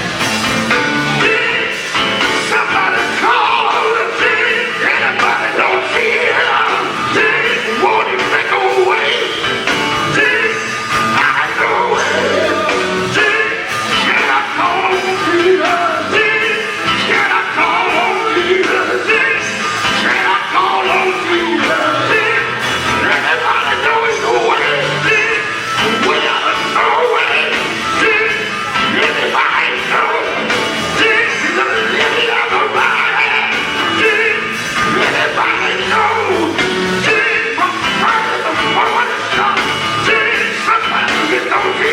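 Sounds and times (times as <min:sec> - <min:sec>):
loud band accompaniment: 0:00.0 - 0:41.9
male gospel group singing: 0:00.7 - 0:41.9.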